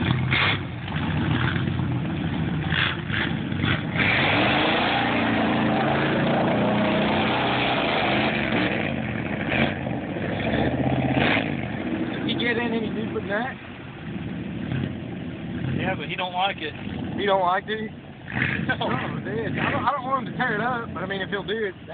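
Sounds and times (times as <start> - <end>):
noisy rush: 0.0 - 21.9
pickup engine revving: 0.0 - 21.9.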